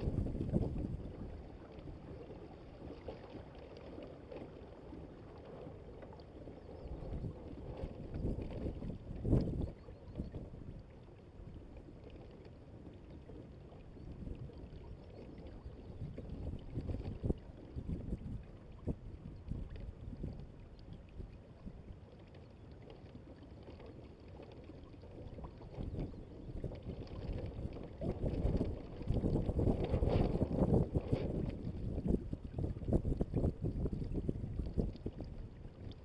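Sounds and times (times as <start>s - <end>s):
water rushing and lapping: 0.0s - 36.0s.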